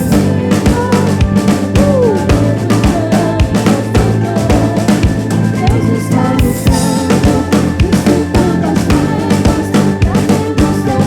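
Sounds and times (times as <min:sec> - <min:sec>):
drum kit beat: 0:00.0 - 0:11.0
soul band playing: 0:00.0 - 0:11.0
sustained bass notes: 0:00.0 - 0:11.0
swooping melodic line: 0:00.0 - 0:11.0.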